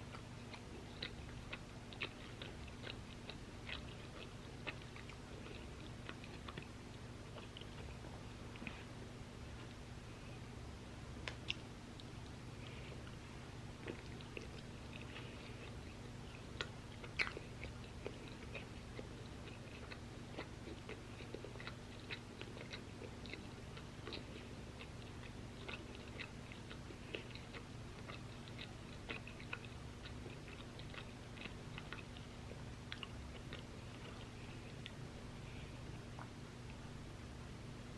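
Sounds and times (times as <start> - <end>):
chewing crispy fries: 0.0 - 9.8, 11.2 - 36.8
faint low hum: 0.0 - 37.9.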